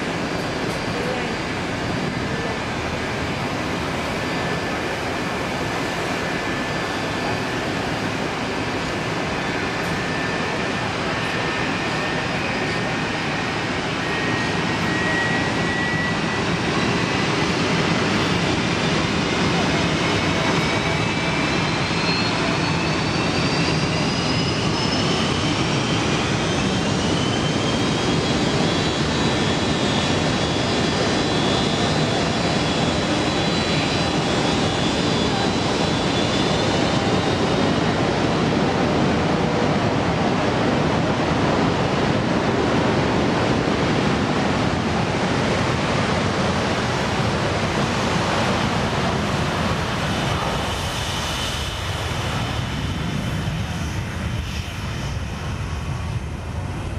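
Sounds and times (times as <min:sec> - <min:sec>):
jet engine roar with rising whine: 0:00.0 - 0:56.9.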